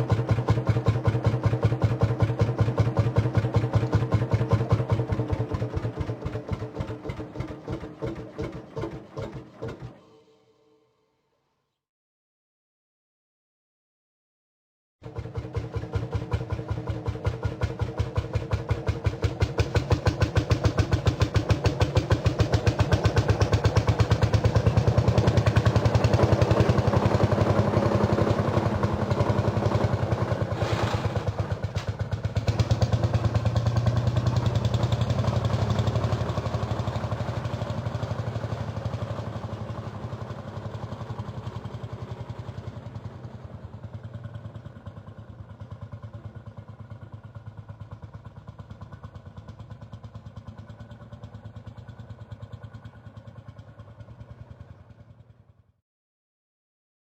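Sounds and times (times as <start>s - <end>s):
tractor engine chugging: 0.0s - 10.0s, 15.0s - 55.3s.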